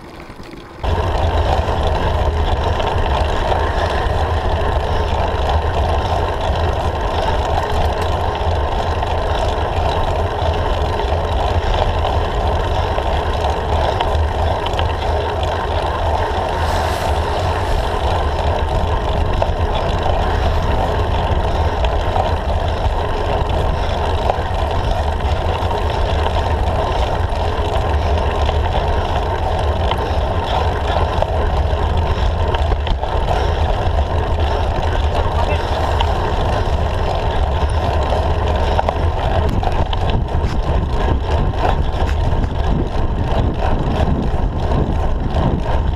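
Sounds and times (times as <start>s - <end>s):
road noise: 0.0s - 45.9s
wind rumble: 0.0s - 45.9s.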